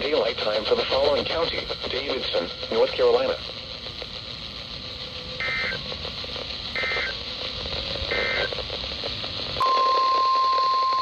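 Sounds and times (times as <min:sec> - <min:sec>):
warbling digital data bursts: 0:00.0 - 0:09.7
radio hiss and hum: 0:00.0 - 0:11.0.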